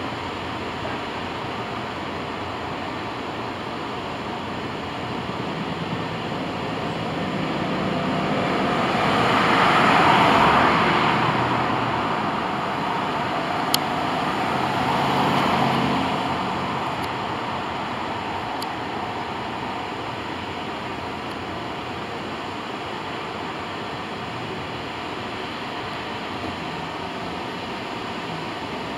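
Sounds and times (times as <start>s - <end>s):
road traffic passing: 0.0s - 28.9s.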